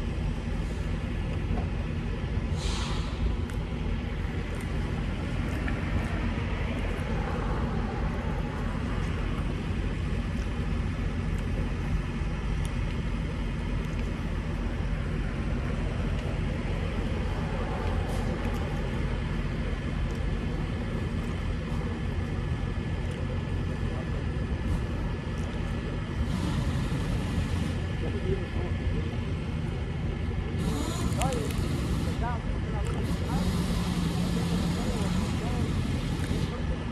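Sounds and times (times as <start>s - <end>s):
truck engine rumbling: 0.0s - 36.9s.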